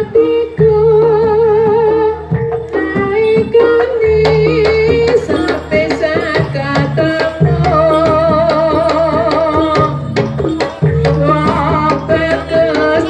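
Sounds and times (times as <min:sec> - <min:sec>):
gamelan-style instruments: 0:00.0 - 0:13.0
hand drum beat: 0:00.0 - 0:13.0.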